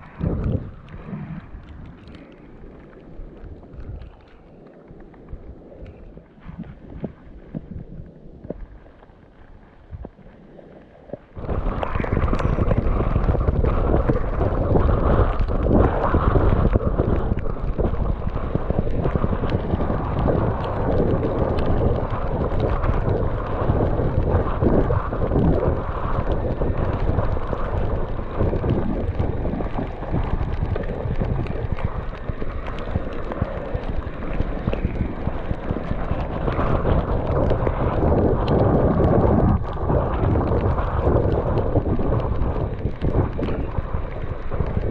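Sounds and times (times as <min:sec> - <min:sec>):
short crackles: 0:00.0 - 0:44.9
wind buffeting microphone: 0:00.0 - 0:44.9.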